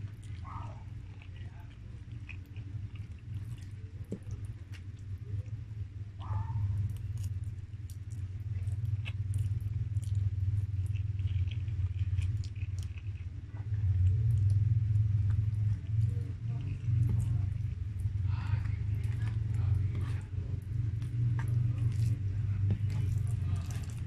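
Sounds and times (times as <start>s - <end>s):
chewing spaghetti: 0.0s - 24.0s
low hum: 0.0s - 24.0s.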